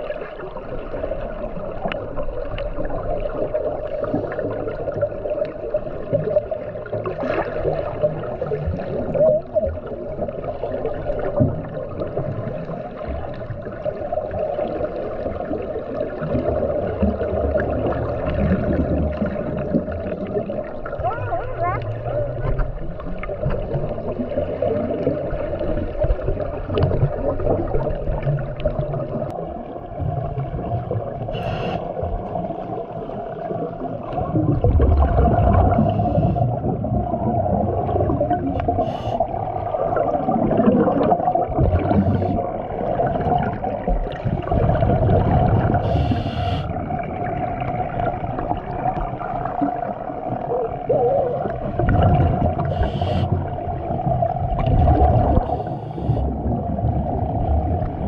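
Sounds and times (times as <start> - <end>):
muffled underwater motor hum: 0.0 - 58.0
water movement: 0.0 - 58.0
bubbles hissing: 2.8 - 58.0.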